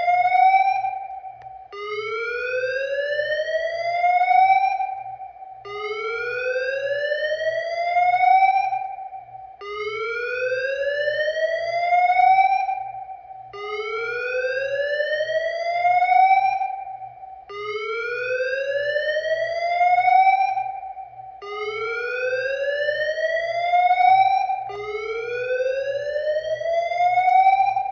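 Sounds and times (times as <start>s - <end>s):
fire alarm whoop tone: 0.0s - 27.9s.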